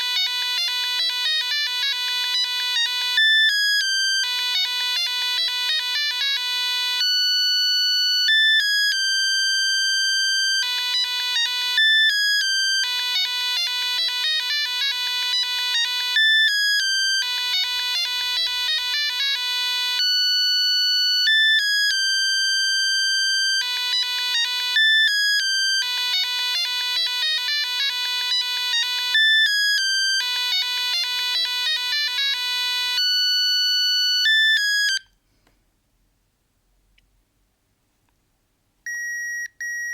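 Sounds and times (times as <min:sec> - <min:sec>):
mobile phone ringtone melody: 0:00.0 - 0:35.1.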